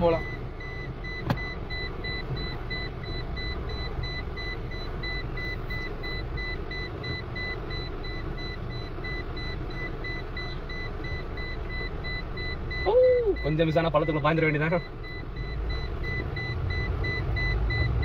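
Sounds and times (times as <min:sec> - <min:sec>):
car engine and road rumble: 0:00.0 - 0:18.0
rapid electronic beeping: 0:00.1 - 0:18.0.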